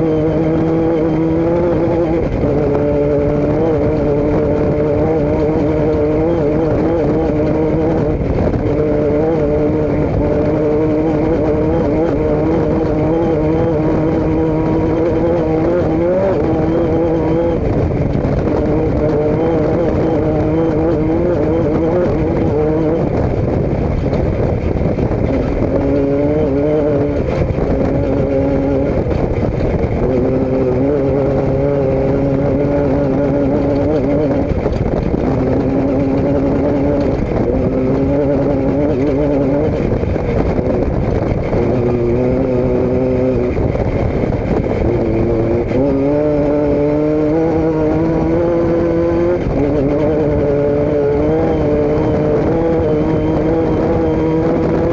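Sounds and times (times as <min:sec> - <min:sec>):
vehicle engine revving: 0:00.0 - 0:54.9.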